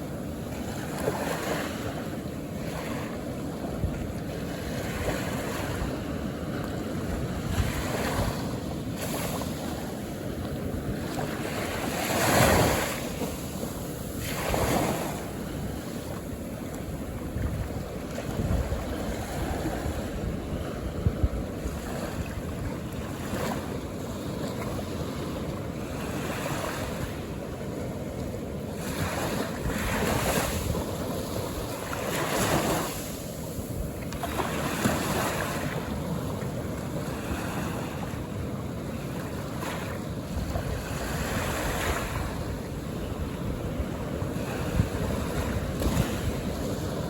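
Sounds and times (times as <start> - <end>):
ocean waves breaking on beach: 0.0 - 47.0.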